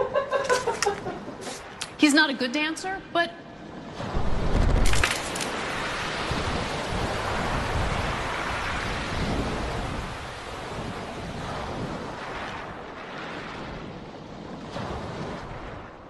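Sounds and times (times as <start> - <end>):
rushing storm wash: 0.0 - 16.0.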